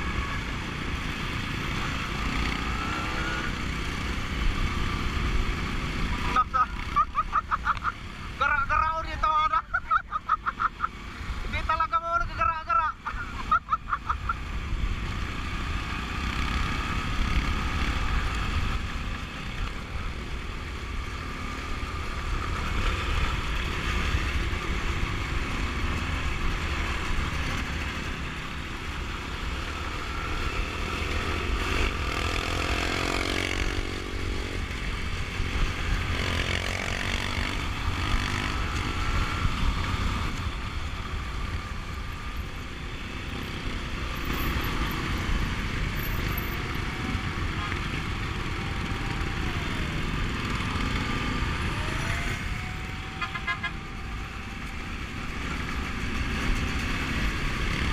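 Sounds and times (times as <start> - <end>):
other motorcycle engines revving: 0.0 - 57.9.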